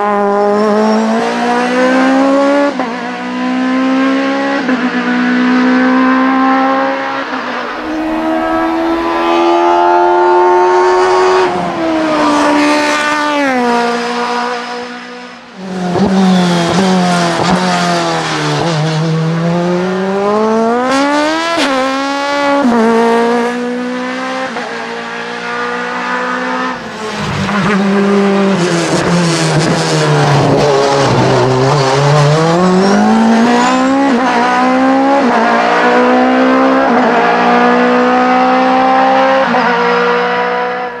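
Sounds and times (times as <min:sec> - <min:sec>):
race car engine at full throttle: 0:00.0 - 0:41.0.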